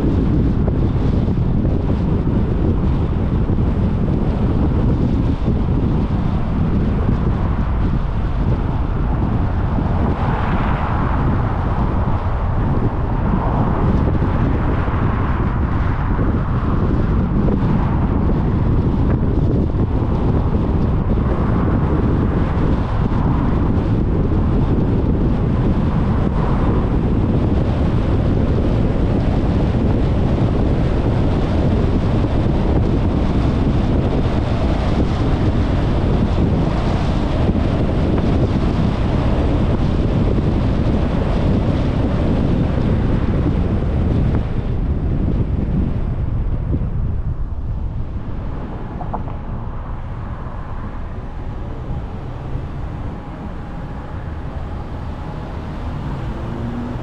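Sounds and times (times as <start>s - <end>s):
vehicle road noise: 0.0s - 57.0s
wind rumble on microphone: 0.0s - 57.0s.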